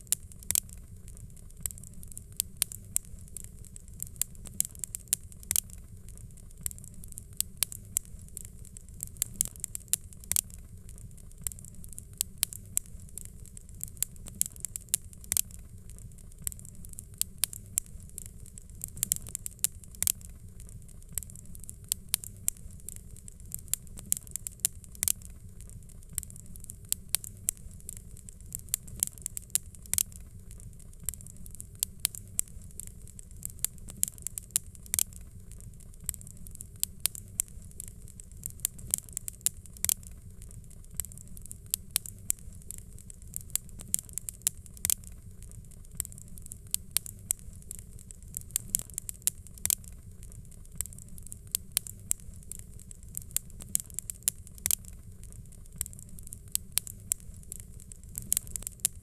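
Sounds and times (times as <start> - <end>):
fireplace crackling: 0.0 - 59.0.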